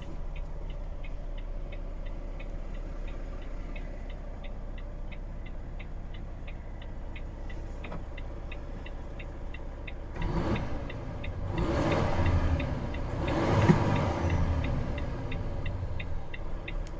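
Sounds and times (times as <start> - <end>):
diesel truck engine starting and revving: 0.0 - 16.9.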